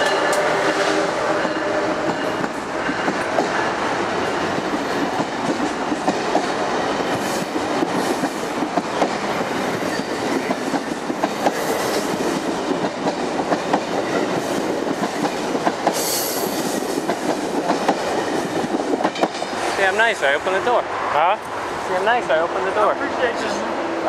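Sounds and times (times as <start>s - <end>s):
train coaches rushing past: 0.0s - 24.0s.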